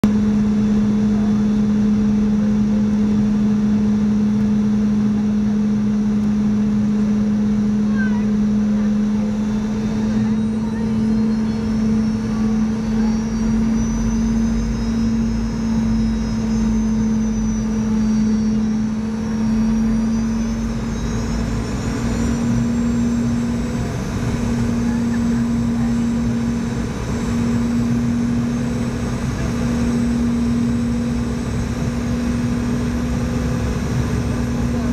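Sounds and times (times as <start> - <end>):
jet engine drone in cabin: 0.0 - 34.9.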